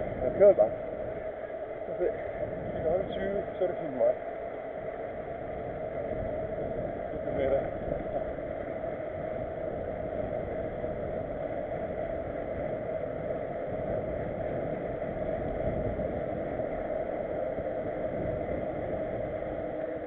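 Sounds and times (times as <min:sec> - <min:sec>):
bike tyres on asphalt: 0:00.0 - 0:20.0
rushing wind: 0:00.0 - 0:20.0.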